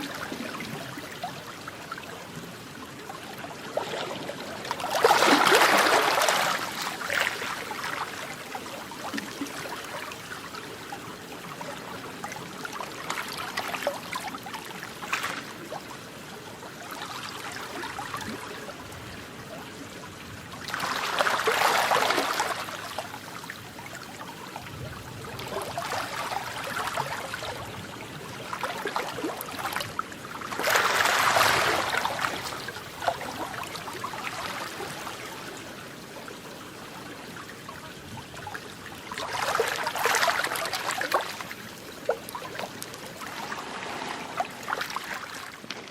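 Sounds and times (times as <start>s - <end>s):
water lapping and splashing: 0.0s - 45.9s.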